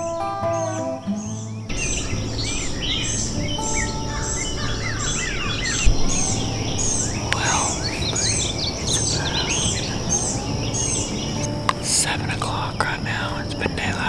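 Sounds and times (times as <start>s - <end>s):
birds chirping and calling: 0.0s - 14.0s
repeating high chirp: 0.5s - 11.8s
steady high-pitched whine: 1.7s - 14.0s.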